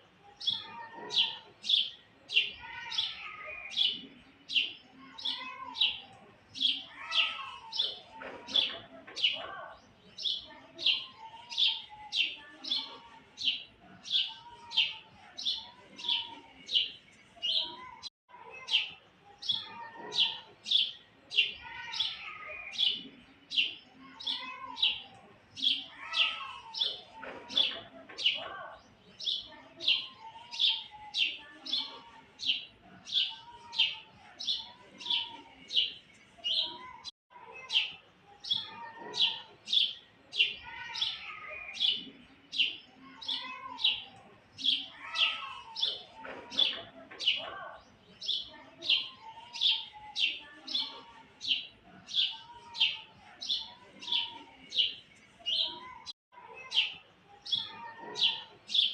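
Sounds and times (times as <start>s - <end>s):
birds warbling: 0.4s - 54.9s.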